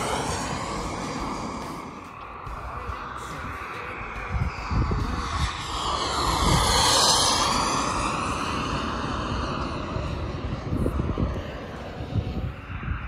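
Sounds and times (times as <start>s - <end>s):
model jet flying past: 0.0s - 13.0s.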